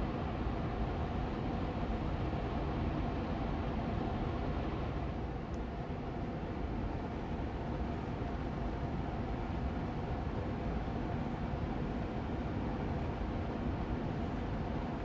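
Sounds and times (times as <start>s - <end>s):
air purifier fan hum: 0.0s - 15.0s.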